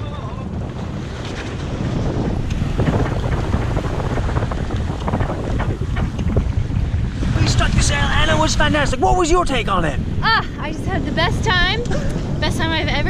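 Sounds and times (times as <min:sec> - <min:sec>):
water rushing past hull: 0:00.0 - 0:13.0
wind buffeting microphone: 0:00.0 - 0:13.0.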